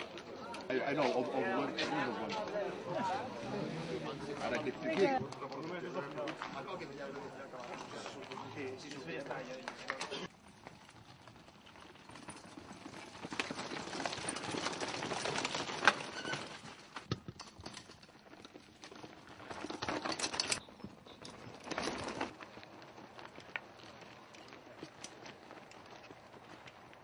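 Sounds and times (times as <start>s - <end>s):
bike tyres crunching on stones: 0.0s - 27.0s.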